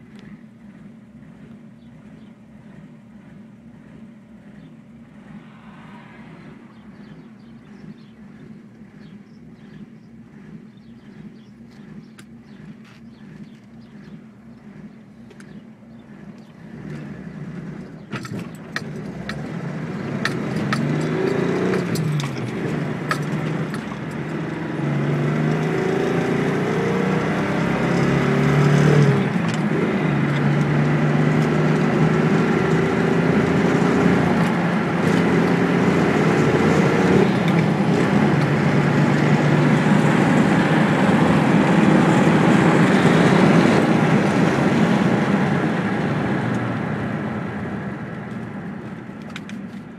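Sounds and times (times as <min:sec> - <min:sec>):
car engine revving: 0:00.0 - 0:49.8.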